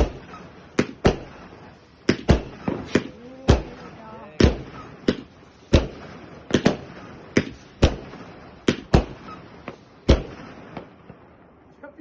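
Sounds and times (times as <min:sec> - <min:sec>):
background hiss: 0:00.0 - 0:12.0
fireworks bangs: 0:00.0 - 0:12.0.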